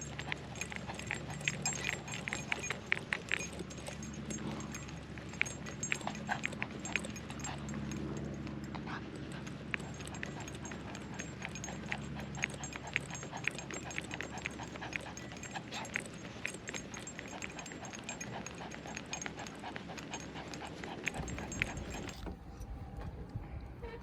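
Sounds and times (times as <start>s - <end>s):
rhythmic ticks: 0.0s - 22.2s
dog panting: 0.0s - 22.4s.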